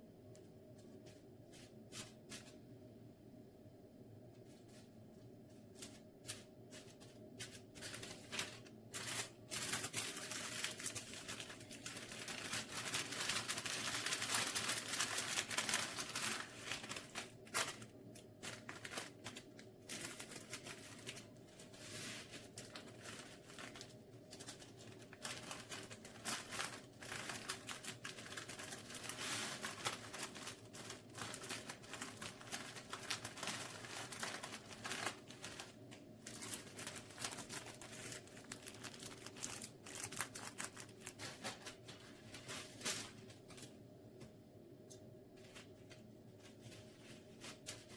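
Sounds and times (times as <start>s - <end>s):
crinkling and rustling: 0.2s - 2.8s, 4.2s - 47.9s.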